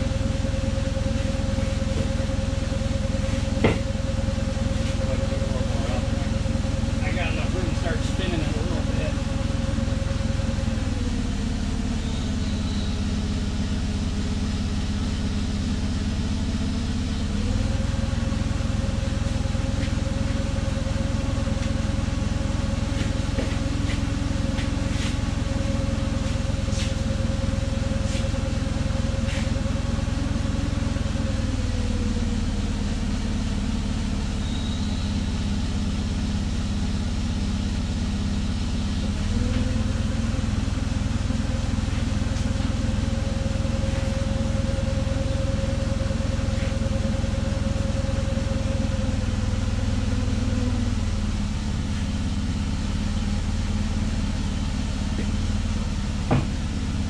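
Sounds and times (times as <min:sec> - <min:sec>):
forklift engine running: 0:00.0 - 0:57.0.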